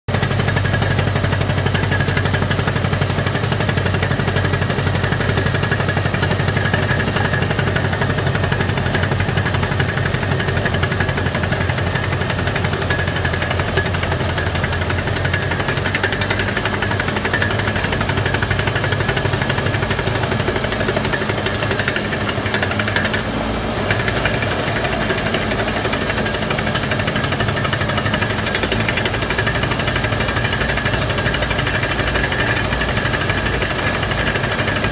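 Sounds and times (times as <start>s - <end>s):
drill hammering: 0.1s - 34.9s
power unit humming: 0.1s - 34.9s.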